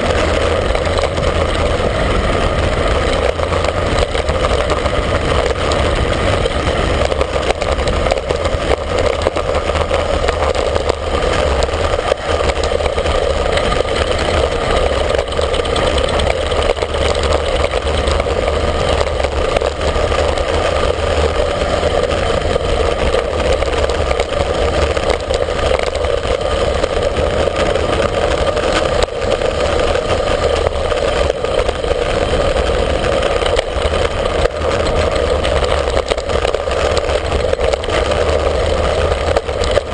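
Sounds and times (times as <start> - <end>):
wind roaring over microphone: 0.0 - 39.9.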